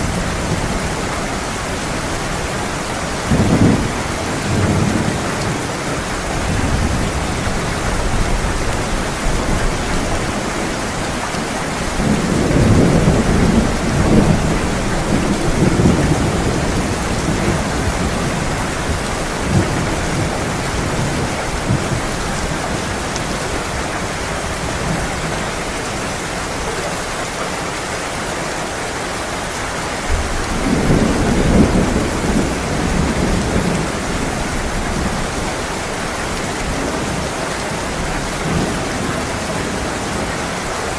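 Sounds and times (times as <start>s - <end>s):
thunder rumbling: 0.0s - 26.8s, 30.0s - 40.3s
heavy rain pouring: 0.0s - 40.9s.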